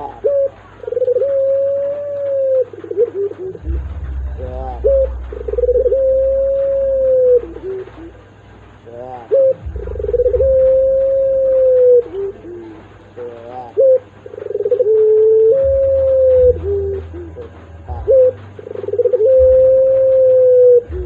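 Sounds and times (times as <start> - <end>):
dove cooing: 0.0 - 21.0
low rumble: 0.0 - 21.0.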